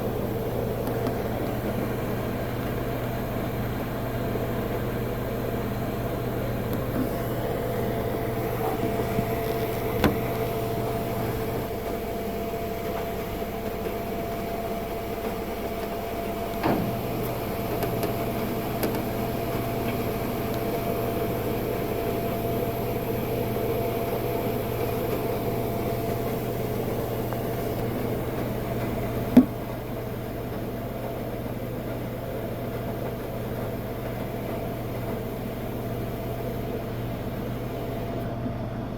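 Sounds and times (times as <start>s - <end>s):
washing machine clicks: 0.0s - 32.1s
washing machine humming: 0.0s - 38.9s.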